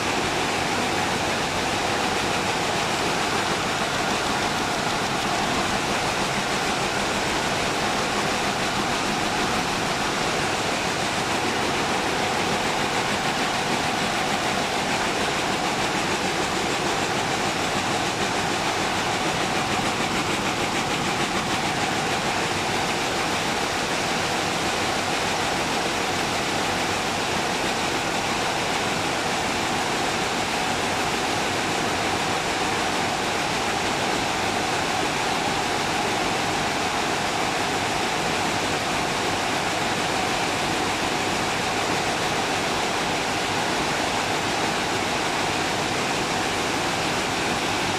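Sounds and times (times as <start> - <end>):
weaving looms clattering: 0.0 - 47.9.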